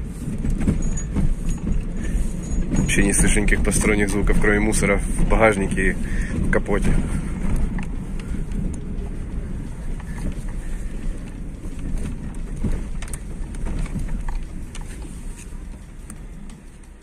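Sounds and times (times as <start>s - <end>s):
car road noise rumble: 0.0s - 17.0s
light knocks and rattles: 0.0s - 17.0s.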